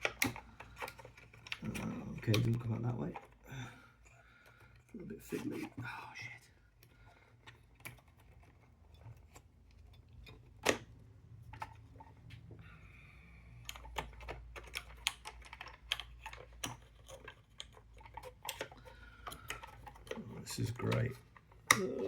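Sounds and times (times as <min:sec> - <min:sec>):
fingers clicking puzzle box pieces: 0:00.0 - 0:12.5, 0:13.5 - 0:22.0.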